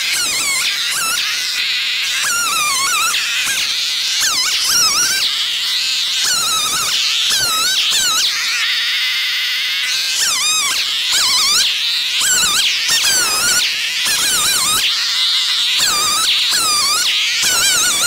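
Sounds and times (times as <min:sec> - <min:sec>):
chainsaw cutting logs: 0:00.0 - 0:18.0.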